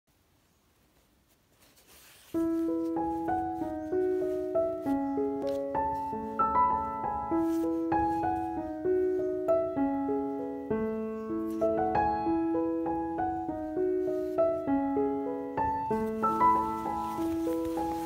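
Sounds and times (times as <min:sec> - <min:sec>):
slow gentle piano melody: 0:01.6 - 0:18.0.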